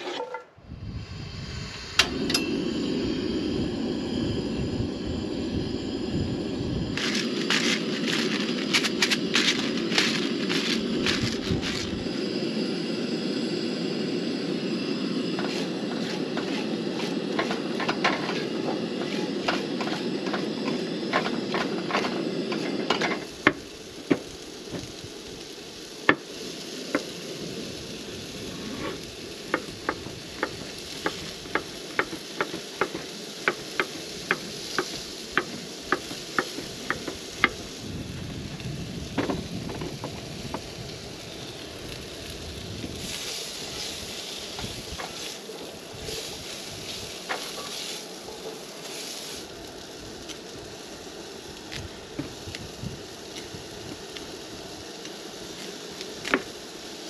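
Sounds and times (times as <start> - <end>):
food sizzling in a skillet: 1.0 - 57.0.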